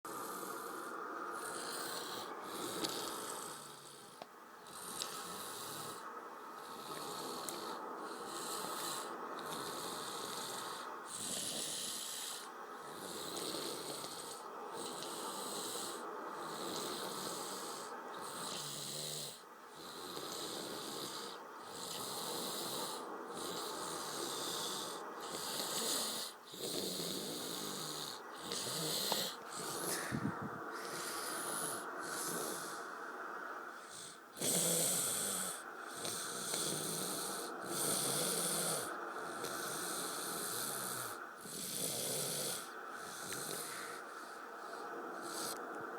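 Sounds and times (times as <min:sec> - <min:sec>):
person snoring: 0:00.1 - 0:06.0, 0:06.6 - 0:32.9, 0:33.8 - 0:45.6.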